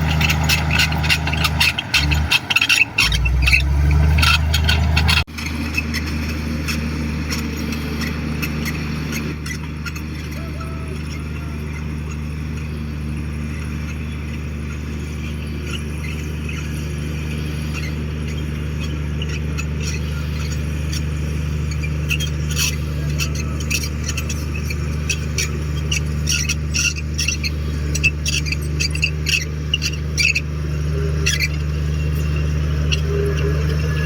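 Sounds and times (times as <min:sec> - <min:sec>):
bulldozer diesel engine running: 0:00.0 - 0:34.0
high squeaks and clicks: 0:00.0 - 0:34.0.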